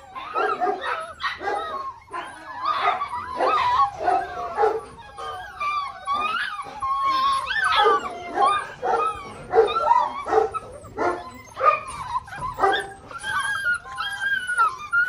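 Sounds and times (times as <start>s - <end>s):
puppies whining and yipping: 0.0s - 15.0s.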